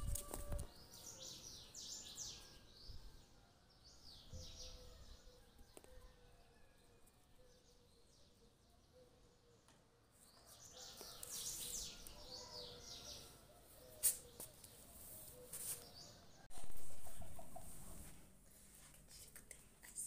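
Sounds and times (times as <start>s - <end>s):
small birds chirping: 0.0s - 18.1s.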